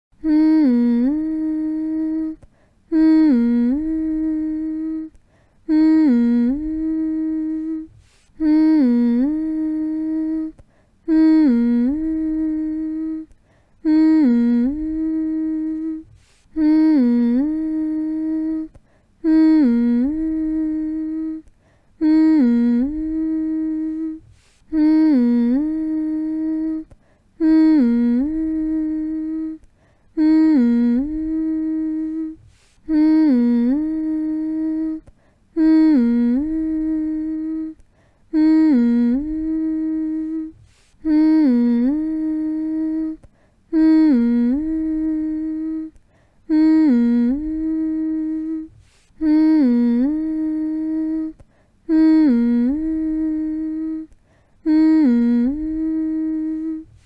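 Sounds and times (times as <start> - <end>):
person humming a lullaby: 0.2 - 57.0.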